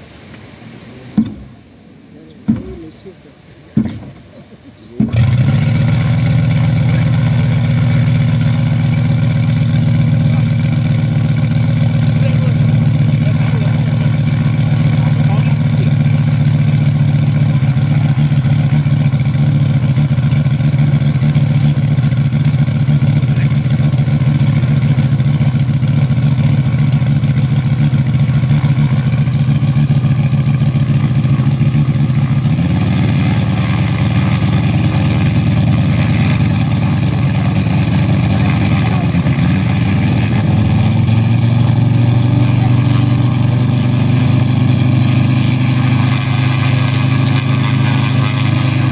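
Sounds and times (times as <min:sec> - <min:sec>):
model aeroplane engine running: 0:05.0 - 0:48.9.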